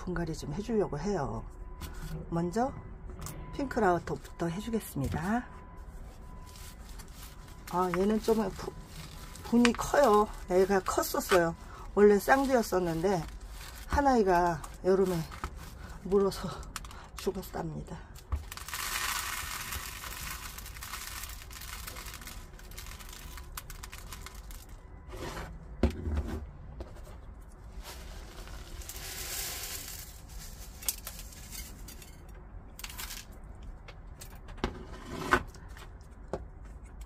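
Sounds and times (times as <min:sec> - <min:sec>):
rustling and scraping of soil pot: 0:05.0 - 0:33.4, 0:34.2 - 0:37.0.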